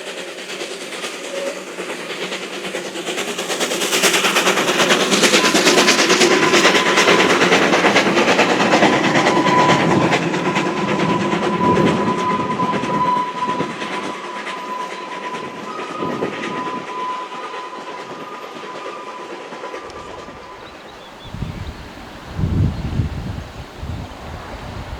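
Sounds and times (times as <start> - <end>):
steam locomotive exhaust beating: 0.0 - 24.9.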